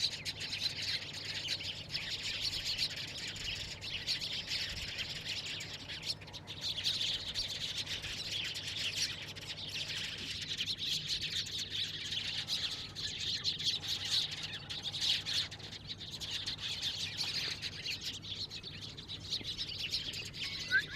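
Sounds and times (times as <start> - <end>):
sparrows chirping: 0.0 - 20.9.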